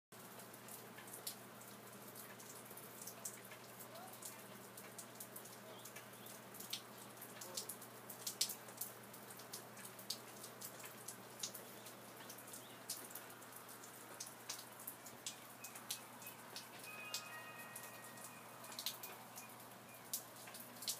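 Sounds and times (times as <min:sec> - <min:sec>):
rain falling: 0:00.2 - 0:20.9
raindrops tapping: 0:00.2 - 0:20.9.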